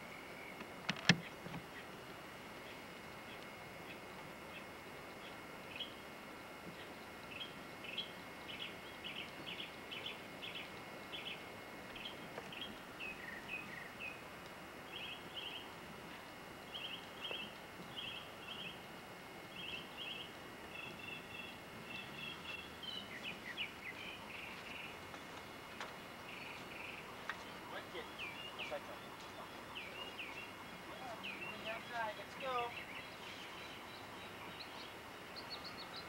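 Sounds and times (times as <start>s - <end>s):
small birds chirping: 0.0s - 18.9s, 19.5s - 36.0s
faint steady hiss: 0.0s - 36.0s.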